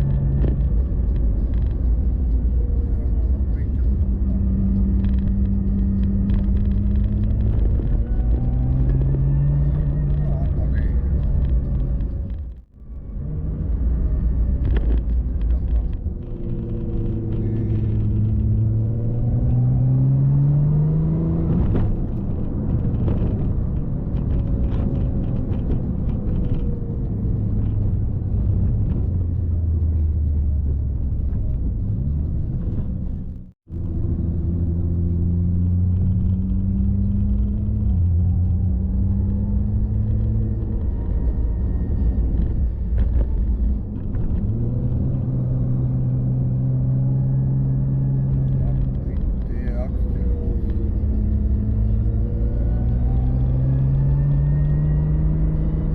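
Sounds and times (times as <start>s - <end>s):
car engine: 0.0s - 55.9s
road rumble: 0.0s - 55.9s.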